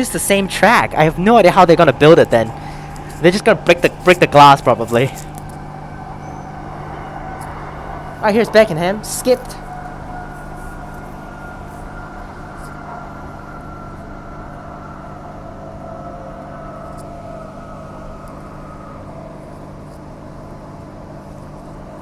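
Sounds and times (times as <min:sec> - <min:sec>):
traction motor whine: 0:00.0 - 0:22.0
train low hum and rumble: 0:00.0 - 0:22.0.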